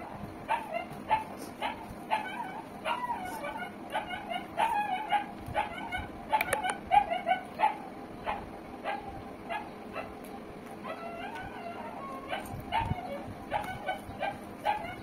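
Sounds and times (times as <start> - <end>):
dog barking: 0.5 - 10.2, 10.8 - 15.0.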